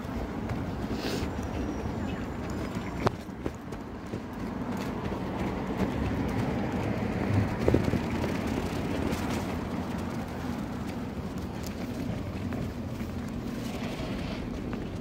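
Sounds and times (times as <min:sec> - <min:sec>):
pushchair wheels rolling on pavement: 0:00.0 - 0:15.0
street traffic: 0:00.0 - 0:15.0.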